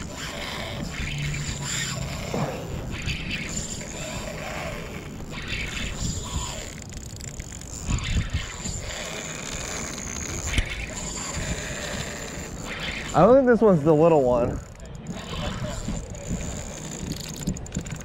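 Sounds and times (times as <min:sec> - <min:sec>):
fishing reel whirring: 0:00.0 - 0:18.0.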